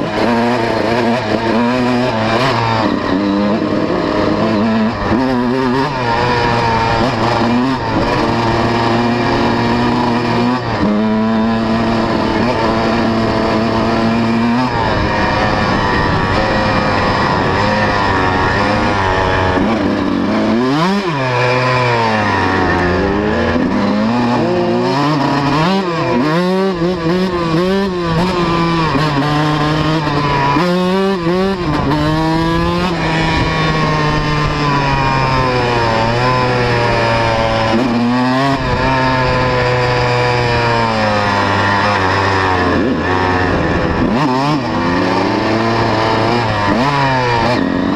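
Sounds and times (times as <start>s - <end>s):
two-stroke motorbike engine: 0.0s - 47.9s.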